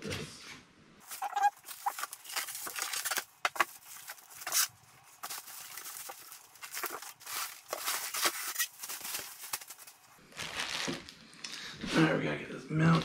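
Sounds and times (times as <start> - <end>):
packing wrap rustling: 1.0 - 11.8.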